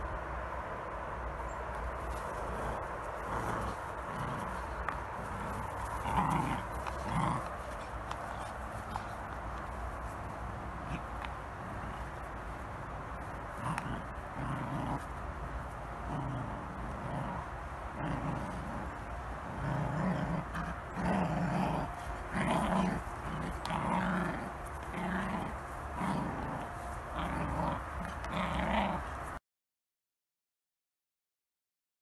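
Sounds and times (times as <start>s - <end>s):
puppies growling in play: 1.8s - 29.4s.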